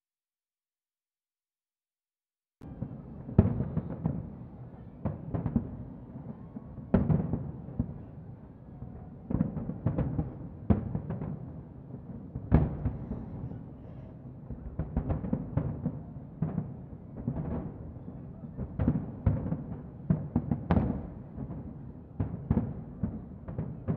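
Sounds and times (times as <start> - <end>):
distant fireworks booming: 2.6 - 23.9.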